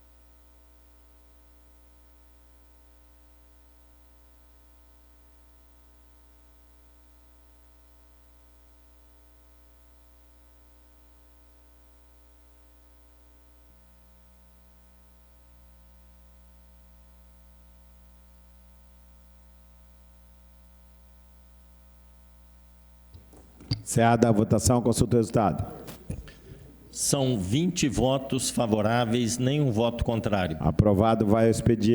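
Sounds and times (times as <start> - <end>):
steady electrical hum: 0.0 - 31.9.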